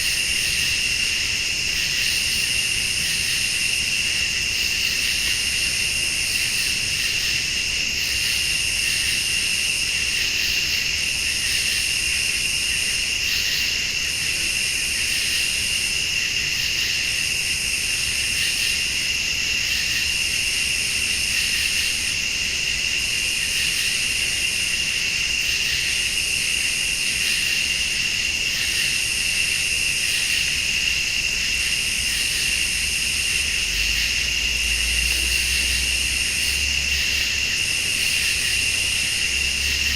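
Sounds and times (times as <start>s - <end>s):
crickets trilling: 0.0s - 39.9s
insect buzz: 0.0s - 39.9s.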